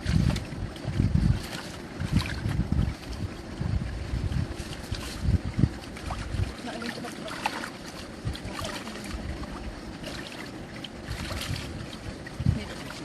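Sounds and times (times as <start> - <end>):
light ticks and splashes: 0.0 - 13.0
wind rumbling on microphone: 0.0 - 13.0.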